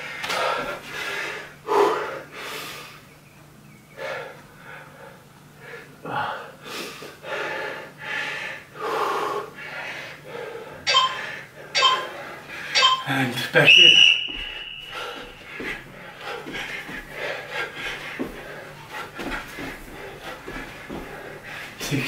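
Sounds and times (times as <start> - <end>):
man breathing hard: 0.0 - 3.1, 4.0 - 12.8, 14.8 - 22.0.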